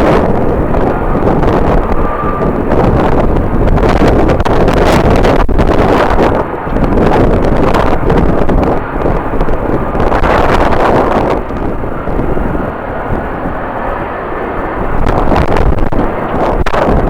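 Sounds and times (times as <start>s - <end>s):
jet airliner engine noise: 0.0s - 17.0s
wind buffeting microphone: 0.0s - 17.0s.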